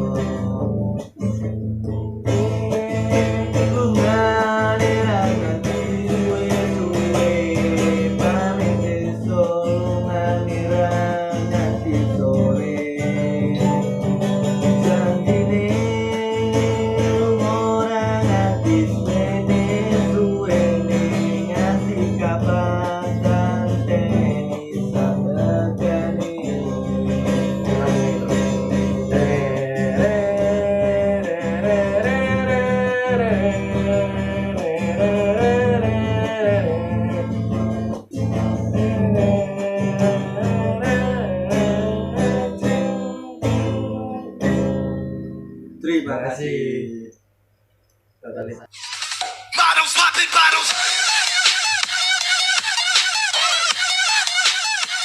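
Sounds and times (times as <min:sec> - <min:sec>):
person singing: 0:00.0 - 0:45.4, 0:48.8 - 0:55.0
acoustic guitar playing: 0:00.0 - 0:46.6, 0:47.2 - 0:55.0.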